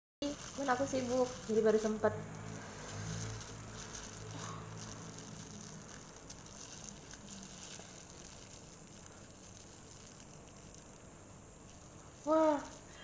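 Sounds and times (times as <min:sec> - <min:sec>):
plastic pouch crinkling: 0:00.2 - 0:13.0.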